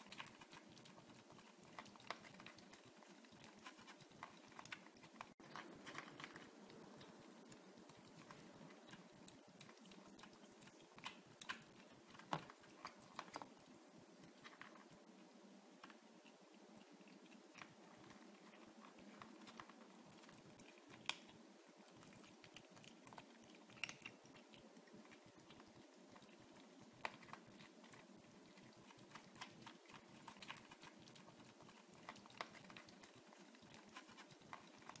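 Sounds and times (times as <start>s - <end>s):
kittens chewing food: 0.0s - 35.0s
low room hum: 0.0s - 35.0s.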